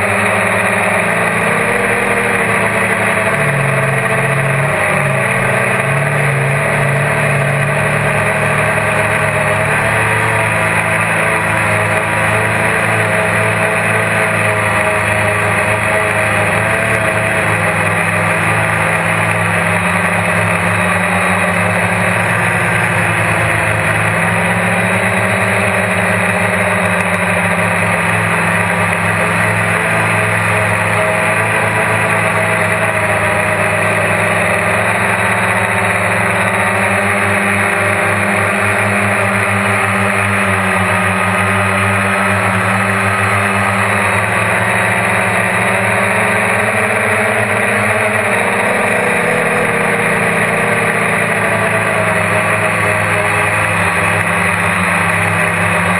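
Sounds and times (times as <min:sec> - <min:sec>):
quadcopter propeller drone: 0:00.0 - 0:55.9.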